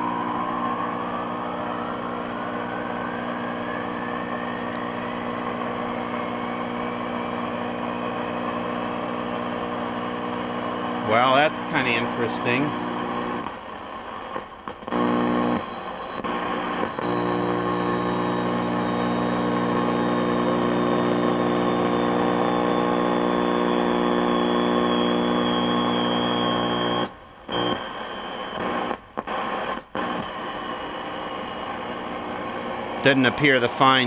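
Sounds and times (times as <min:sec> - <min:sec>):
television speaker buzz: 0:00.0 - 0:34.0.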